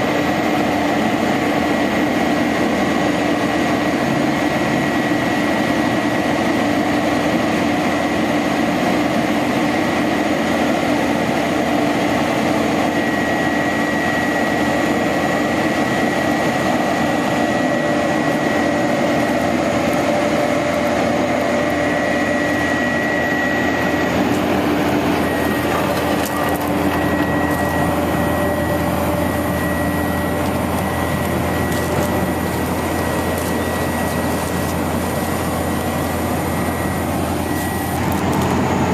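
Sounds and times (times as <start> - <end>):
diesel truck engine running: 0.0 - 38.9
steady whine: 0.0 - 38.9.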